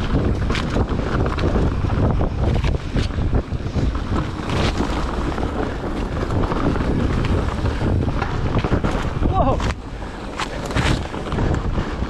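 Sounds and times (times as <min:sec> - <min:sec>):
bike and stones clicking: 0:00.0 - 0:12.0
tyres rumbling on gravel: 0:00.0 - 0:12.0
wind buffeting microphone: 0:00.0 - 0:12.0.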